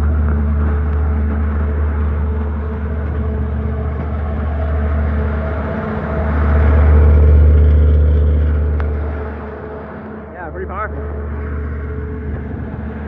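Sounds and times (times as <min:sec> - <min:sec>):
generator engine humming: 0:00.0 - 0:13.0.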